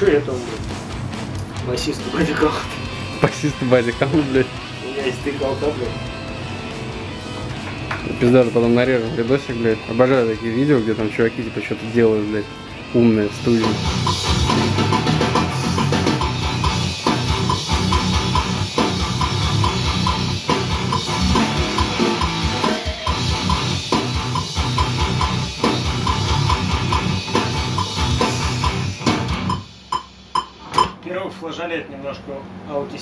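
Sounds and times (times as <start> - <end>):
heavy electric guitar: 0.0 - 30.9
death metal music: 0.0 - 31.0.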